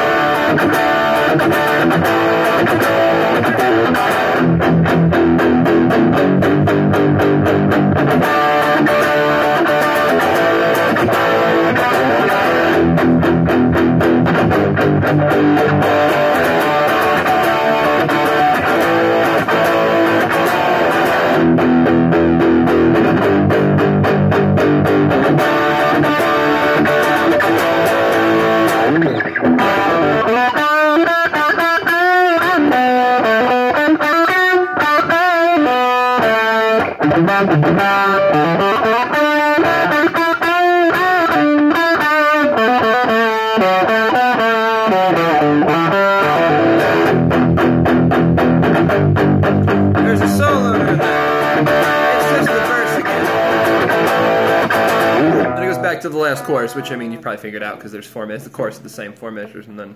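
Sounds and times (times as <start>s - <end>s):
distorted electric guitar: 0.0s - 58.7s.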